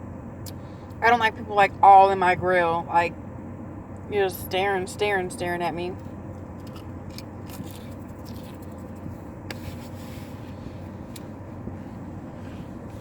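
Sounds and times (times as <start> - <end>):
air conditioning running: 0.0 - 13.0.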